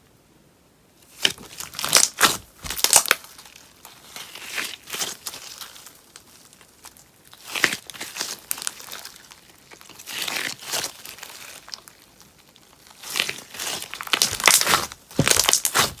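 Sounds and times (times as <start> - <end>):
slime crackling and popping: 1.1 - 16.0.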